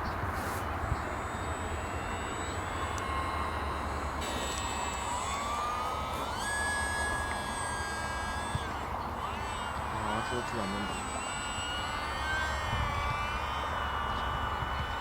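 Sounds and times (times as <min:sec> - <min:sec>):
rc airplane motor whining: 0:00.0 - 0:15.0.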